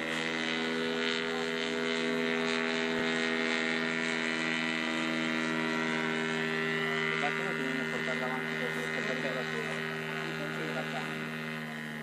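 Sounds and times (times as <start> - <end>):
model plane engine droning: 0.0 - 12.0.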